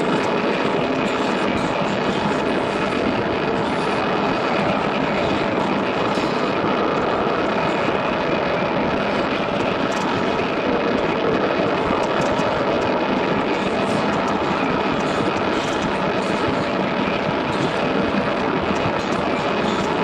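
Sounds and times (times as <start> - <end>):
droning noise music: 0.0 - 20.0.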